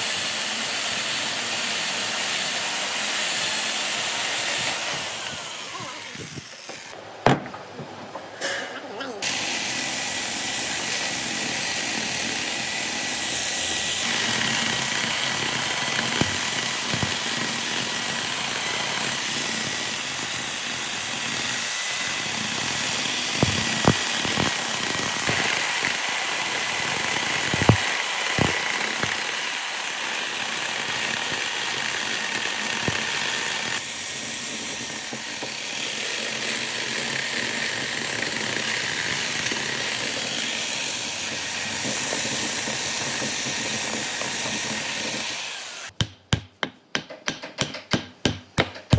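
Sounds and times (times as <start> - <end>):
electric chainsaw cutting wood: 0.0 - 7.0, 9.2 - 46.0.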